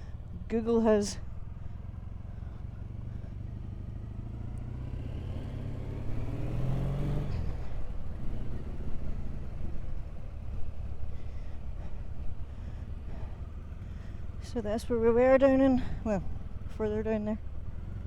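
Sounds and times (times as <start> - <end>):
motorcycle engine accelerating: 0.0 - 18.0
road noise: 0.0 - 18.0.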